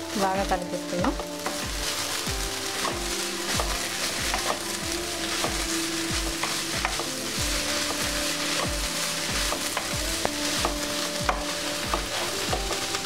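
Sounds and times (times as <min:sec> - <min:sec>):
background music with beat: 0:00.0 - 0:13.0
food sizzling in a pan: 0:00.0 - 0:13.0
spatula stirring: 0:00.8 - 0:13.0.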